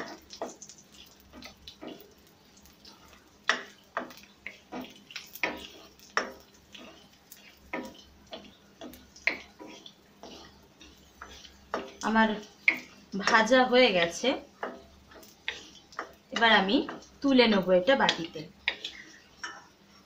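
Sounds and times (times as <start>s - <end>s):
wooden spoon scraping metal pan: 0.0s - 19.7s.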